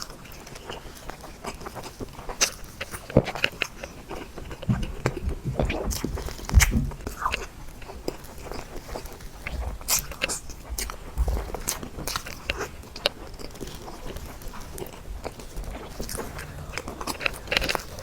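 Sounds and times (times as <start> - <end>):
wet chewing and mouth clicks: 0.0 - 18.0.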